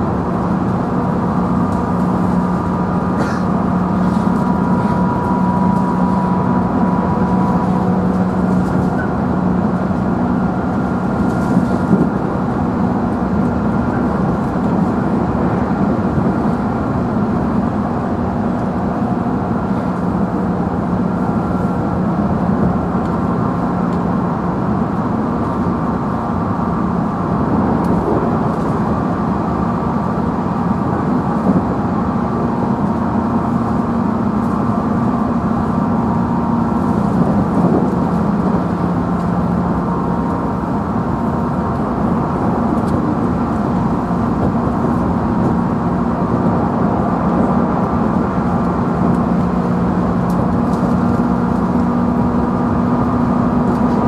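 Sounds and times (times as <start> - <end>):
traction motor hum: 0.0 - 54.0
train wheels rumbling on rail: 0.0 - 54.0.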